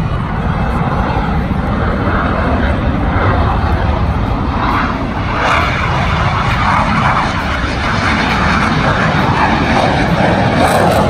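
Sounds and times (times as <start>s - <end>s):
jet fighter flying low: 0.0s - 11.0s.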